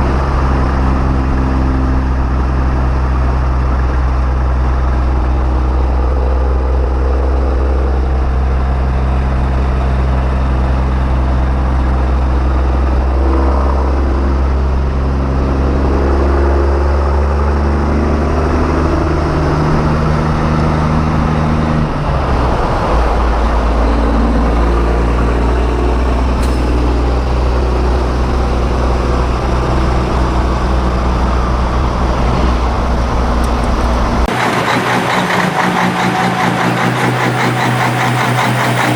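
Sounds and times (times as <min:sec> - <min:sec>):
diesel truck engines rumbling: 0:00.0 - 0:38.9.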